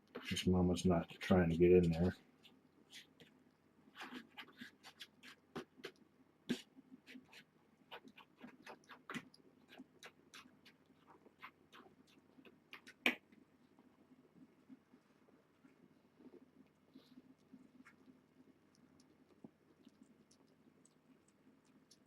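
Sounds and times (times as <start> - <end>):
kittens lapping and chewing: 0.0 - 22.0.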